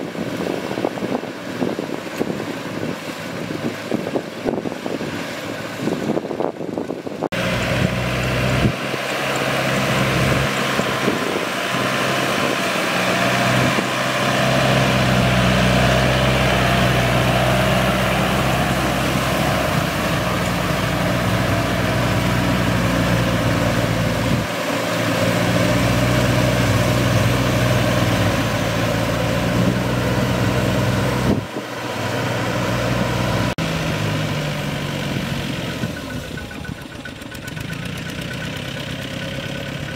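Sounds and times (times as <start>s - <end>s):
tractor engines running under load: 0.0s - 39.9s.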